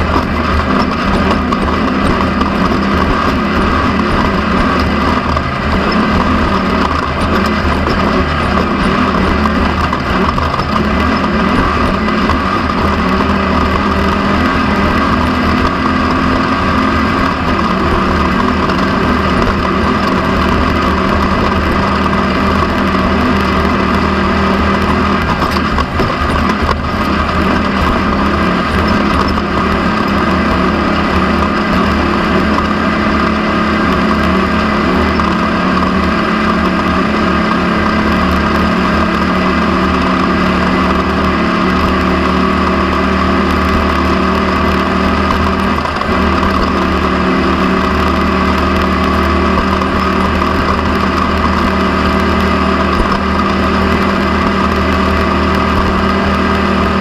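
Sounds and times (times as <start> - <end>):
race vehicle engine running hard: 0.0 - 57.0
road noise: 0.0 - 57.0.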